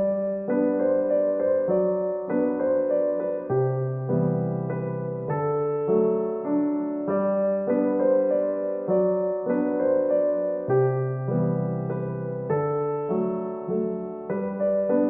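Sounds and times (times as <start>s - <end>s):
solo piano piece: 0.0s - 15.0s.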